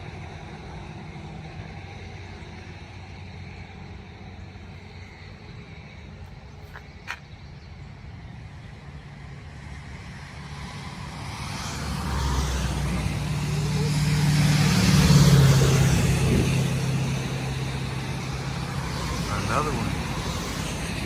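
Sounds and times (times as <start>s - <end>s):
distant road traffic rumble: 0.0s - 21.0s.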